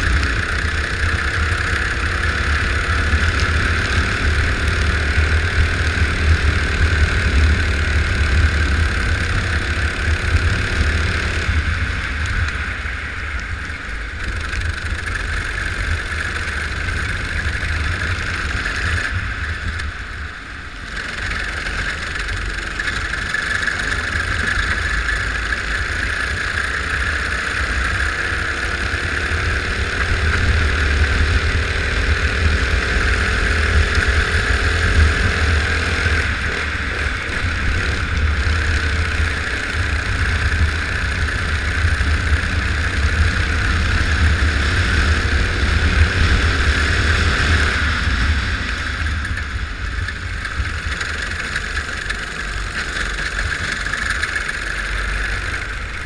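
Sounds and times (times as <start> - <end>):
go-kart engine running: 0.0 - 56.0
wind rumble on microphone: 0.0 - 56.0.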